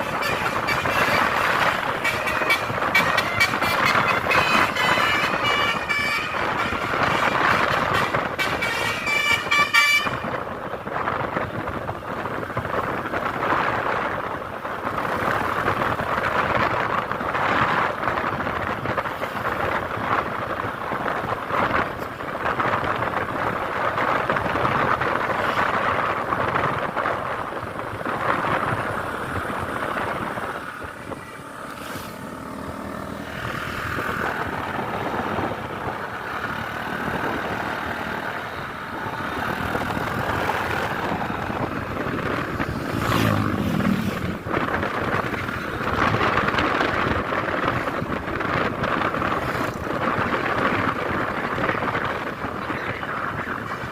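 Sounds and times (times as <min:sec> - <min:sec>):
vehicle road and engine noise: 0:00.0 - 0:53.9.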